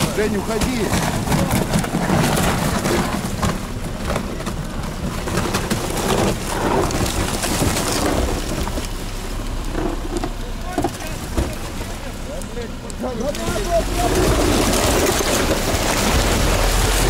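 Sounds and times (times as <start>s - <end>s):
ice cracking and snapping: 0.0s - 17.0s
ice creaking and groaning: 0.0s - 17.0s.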